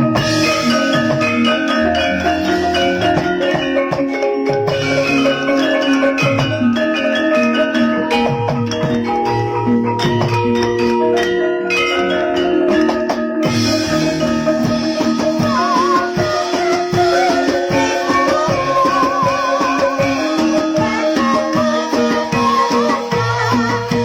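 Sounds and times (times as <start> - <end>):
drum strokes: 0.0 - 24.0
gamelan mallet percussion: 0.0 - 24.0
wavering high melody: 0.0 - 24.0.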